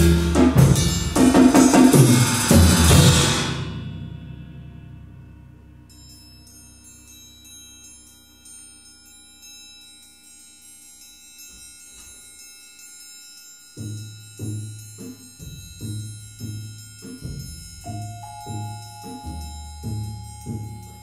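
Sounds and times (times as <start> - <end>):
high ringing notes: 3.4 - 21.0
tuned percussion ringing notes: 3.7 - 21.0.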